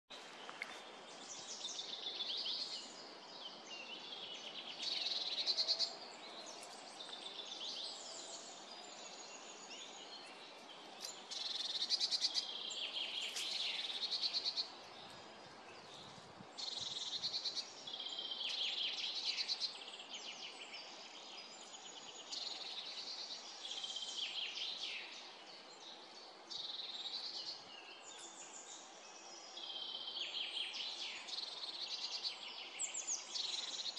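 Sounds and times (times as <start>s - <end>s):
faint steady hiss: 0.1s - 33.9s
songbirds singing: 0.1s - 33.9s.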